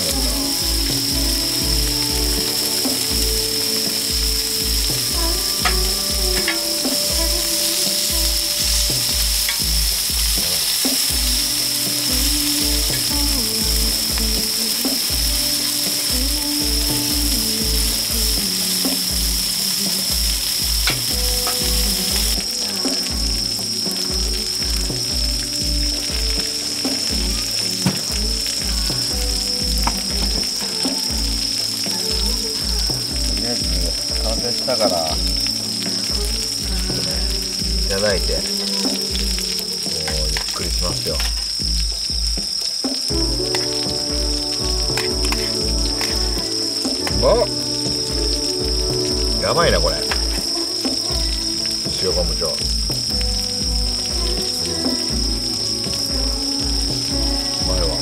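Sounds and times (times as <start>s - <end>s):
background music with beat: 0.0s - 58.0s
food sizzling on griddle: 0.0s - 58.0s.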